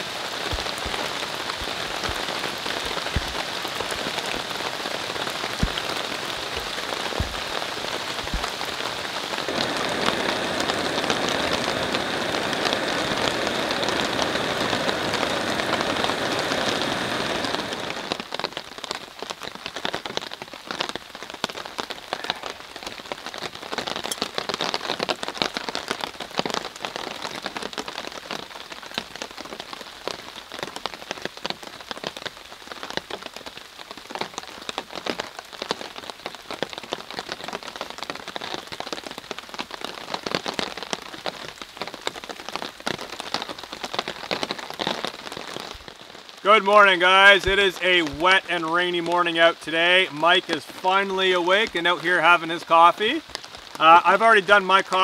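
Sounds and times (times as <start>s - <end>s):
rain falling on woodland and tarp: 0.0s - 55.0s
raindrops tapping on a tarp: 0.0s - 55.0s.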